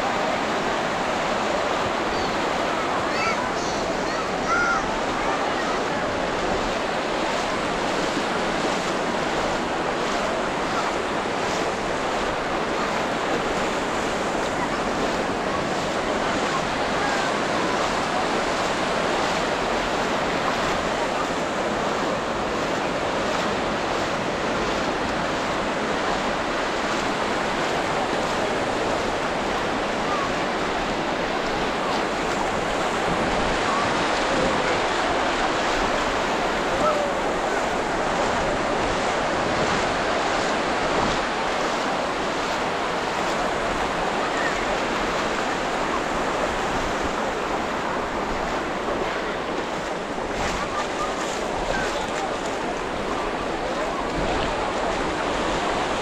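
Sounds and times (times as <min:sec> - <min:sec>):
ocean surf breaking: 0:00.0 - 0:56.0
wind: 0:00.0 - 0:56.0.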